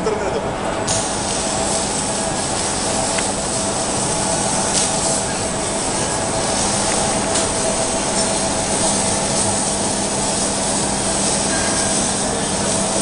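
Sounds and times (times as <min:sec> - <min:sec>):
welding rotator humming: 0:00.0 - 0:13.0
even hiss: 0:00.9 - 0:13.0.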